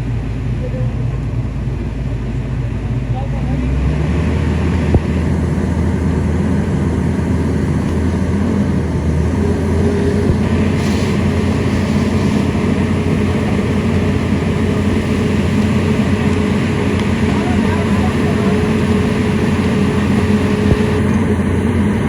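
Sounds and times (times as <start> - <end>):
excavator diesel engine rumbling: 0.0 - 22.0
steady higher tone: 0.0 - 22.0.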